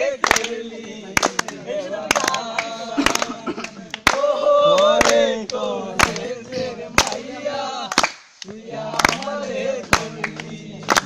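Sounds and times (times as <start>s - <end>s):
group of people singing: 0.0s - 11.0s
hand claps: 0.2s - 6.4s, 7.0s - 7.3s, 7.9s - 11.0s.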